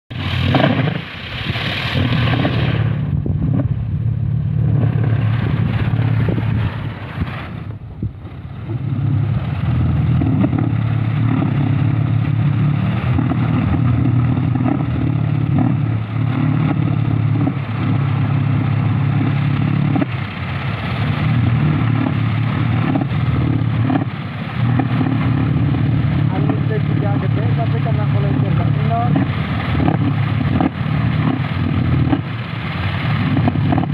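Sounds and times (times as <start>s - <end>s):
wind propeller droning: 0.1s - 33.9s.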